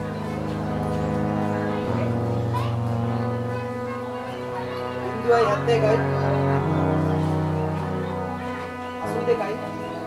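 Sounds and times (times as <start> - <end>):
slow low background music: 0.0 - 10.0.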